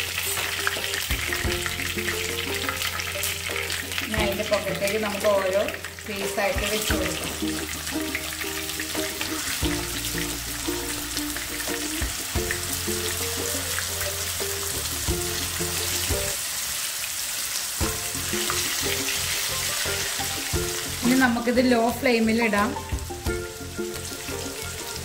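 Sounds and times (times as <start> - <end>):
background music: 0.0 - 16.4, 17.8 - 25.0
chicken sizzling in oil: 0.0 - 25.0.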